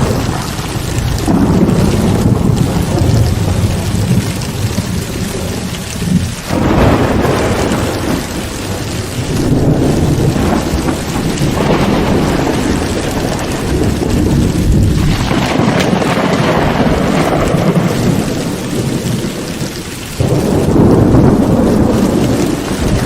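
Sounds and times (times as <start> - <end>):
heavy rain pouring: 0.0 - 23.0
rolling thunder: 0.0 - 23.0.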